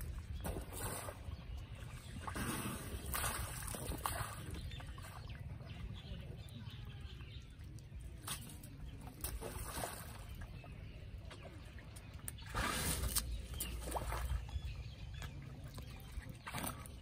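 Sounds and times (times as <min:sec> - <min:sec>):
muddy water sloshing and splashing: 0:00.0 - 0:17.0.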